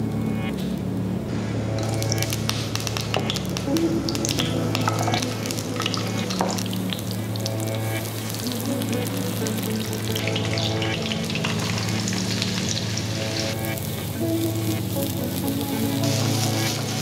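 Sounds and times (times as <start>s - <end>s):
food sizzling in hot oil: 1.8s - 17.0s.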